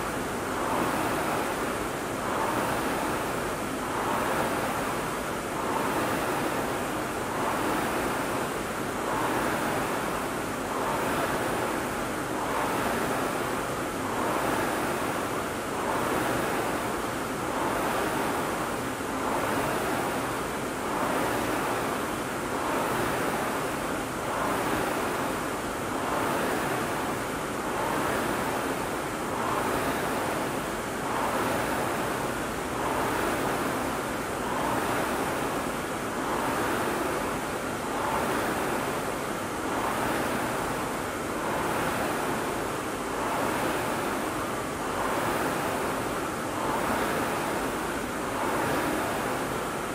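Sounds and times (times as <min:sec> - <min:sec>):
rowing machine flywheel whooshing: 0:00.0 - 0:49.9.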